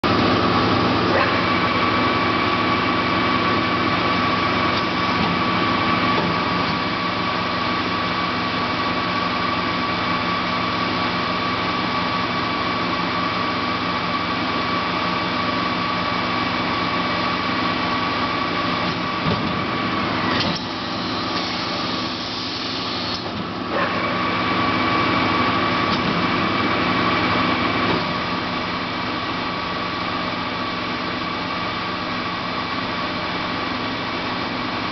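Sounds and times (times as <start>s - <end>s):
machine hum with high whine: 0.0s - 34.9s.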